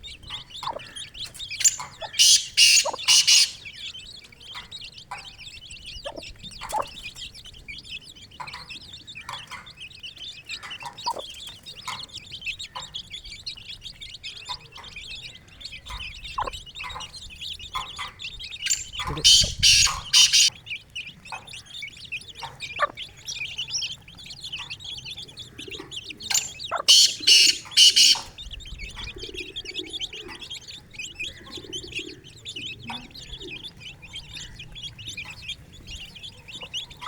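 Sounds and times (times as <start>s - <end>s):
chicks peeping: 0.0s - 37.0s
hen clucking: 0.0s - 37.0s.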